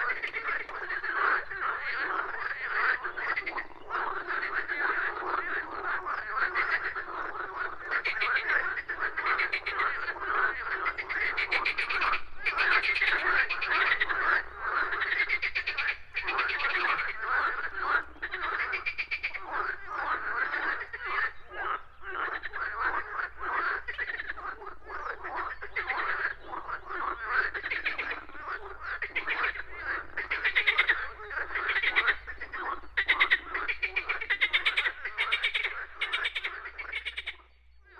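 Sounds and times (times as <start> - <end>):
frogs croaking: 0.0 - 37.9.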